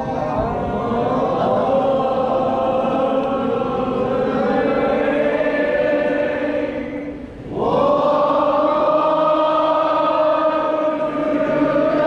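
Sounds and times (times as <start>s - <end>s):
group of people singing in unison: 0.0s - 12.0s.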